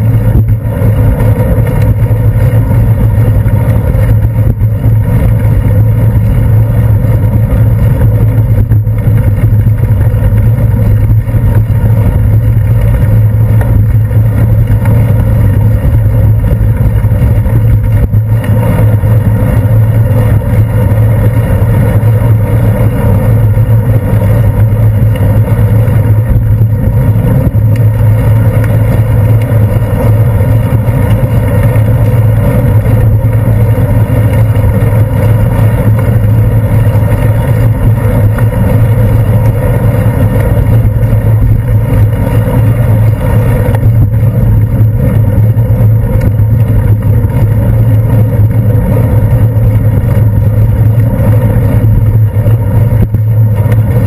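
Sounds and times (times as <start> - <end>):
muffled road rumble: 0.0 - 54.0
wind on camera case: 0.0 - 54.0.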